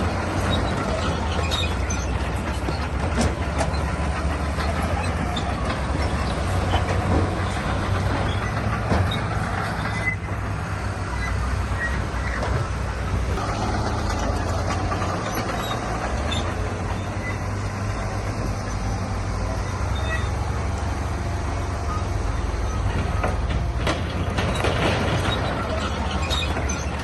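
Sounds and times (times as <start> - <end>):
heavy diesel machine running: 0.0 - 27.0.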